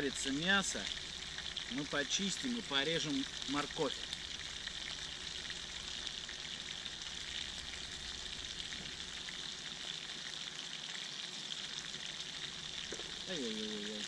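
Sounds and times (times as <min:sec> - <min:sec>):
meat sizzling in pan: 0:00.0 - 0:14.0.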